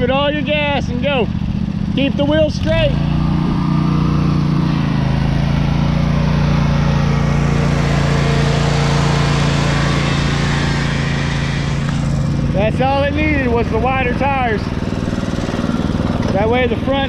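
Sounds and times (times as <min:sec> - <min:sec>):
small engine running at full throttle: 0:00.0 - 0:17.0.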